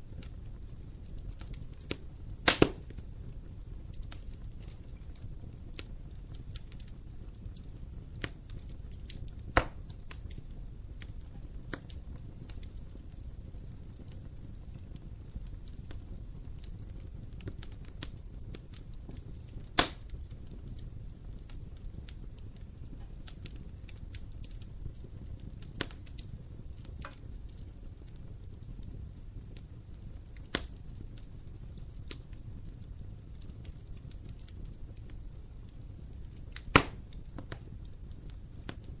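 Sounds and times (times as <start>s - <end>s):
wood fire burning: 0.0s - 39.0s.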